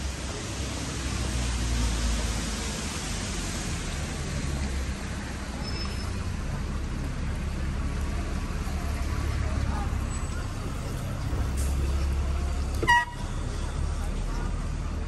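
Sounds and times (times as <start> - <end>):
hiss of rainy street: 0.0 - 15.0
traffic rumble: 0.0 - 15.0.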